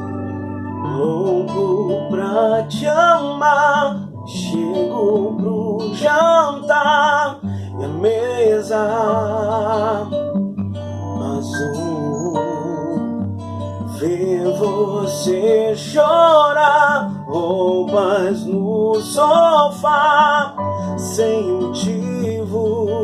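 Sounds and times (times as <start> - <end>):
acoustic guitar: 0.0 - 23.0
man singing with vibrato: 0.7 - 10.3, 11.0 - 23.0.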